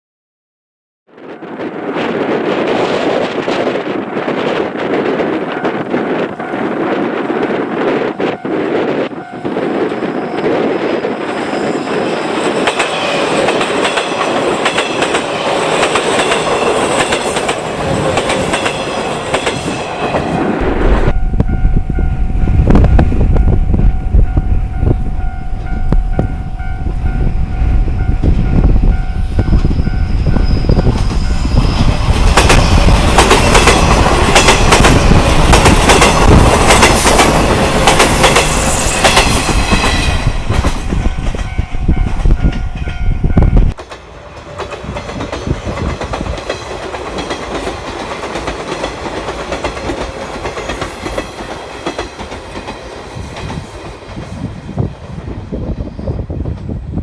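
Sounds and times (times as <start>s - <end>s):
train wheels clacking on rails: 2.5s - 20.5s, 22.6s - 55.4s.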